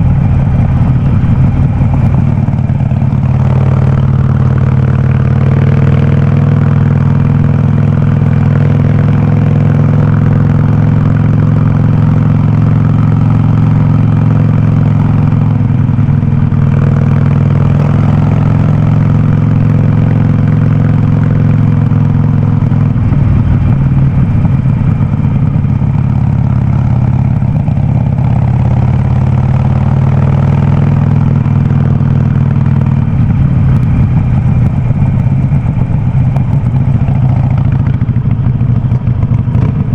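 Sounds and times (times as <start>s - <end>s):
motorcycle engine through loud exhaust: 0.0s - 39.9s.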